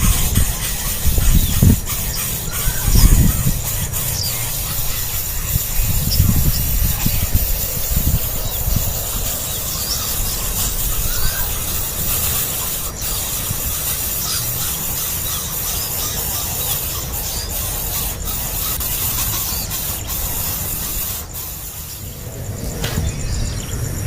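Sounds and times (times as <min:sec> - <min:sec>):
nestling birds cheeping: 0:00.0 - 0:24.0
steady hiss: 0:00.0 - 0:24.0.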